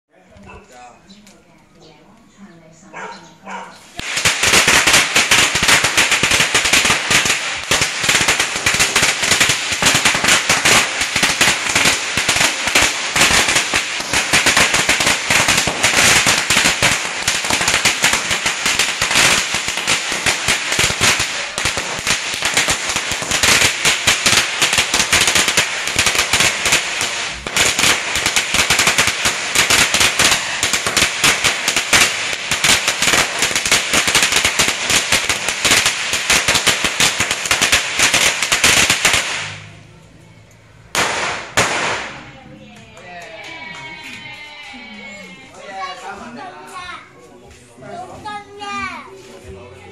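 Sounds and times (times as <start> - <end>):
firecrackers crackling: 3.8 - 40.1, 40.8 - 44.8.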